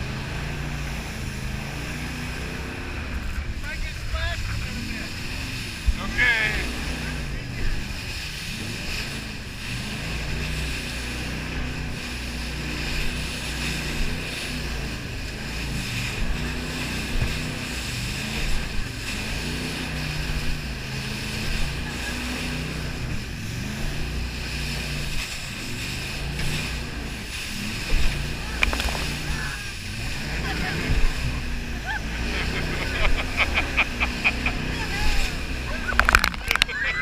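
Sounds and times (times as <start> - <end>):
jet boat engine running: 0.0 - 37.0
water rushing: 0.0 - 37.0.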